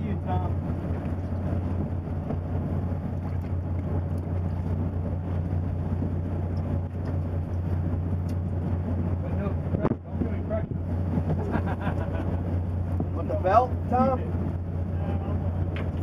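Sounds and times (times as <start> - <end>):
boat engine low drone: 0.0 - 16.0
sea noise: 0.0 - 16.0
wind: 0.0 - 16.0.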